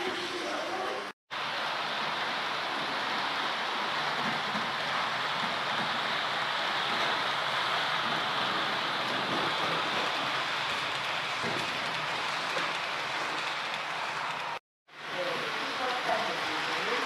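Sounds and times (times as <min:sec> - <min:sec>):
model trains rolling on track: 0:00.0 - 0:17.0.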